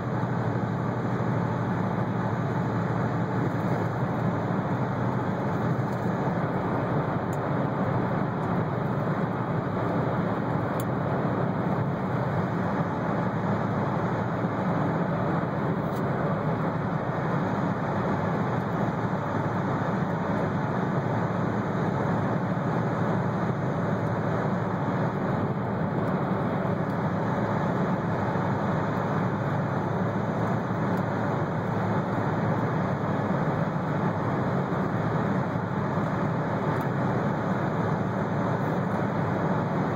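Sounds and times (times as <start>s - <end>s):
car driving through tunnel: 0.0s - 39.9s.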